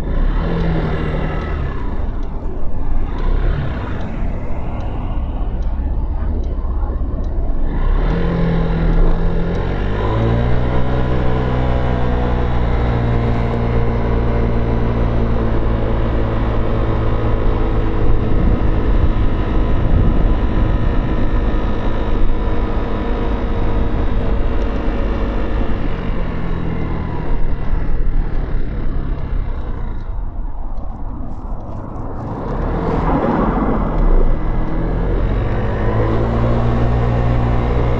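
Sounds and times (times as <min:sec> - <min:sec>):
motorcycle engine: 0:00.0 - 0:30.5
low wind rumble: 0:00.0 - 0:37.9.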